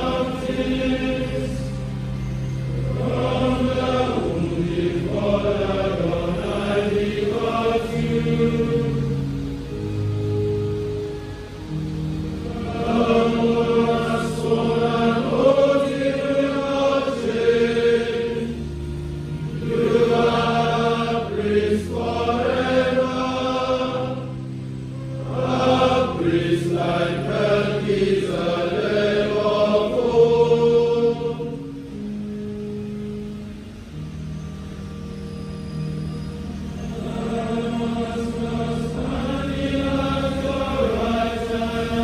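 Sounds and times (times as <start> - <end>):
male choir singing a hymn: 0.0 - 10.6, 11.6 - 32.8, 35.8 - 42.0
held instrument notes: 0.0 - 42.0.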